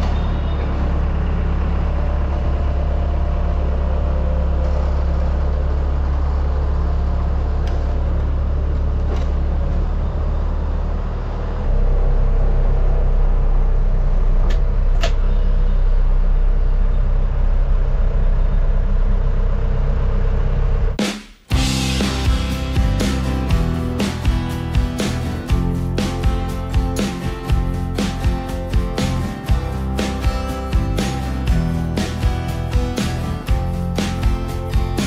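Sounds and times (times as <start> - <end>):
diesel engine humming: 0.0 - 35.0.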